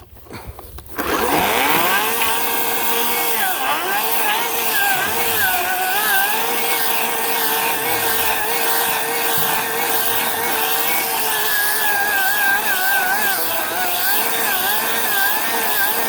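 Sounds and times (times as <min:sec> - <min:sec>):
electric chainsaw cutting wood: 0:00.6 - 0:16.0.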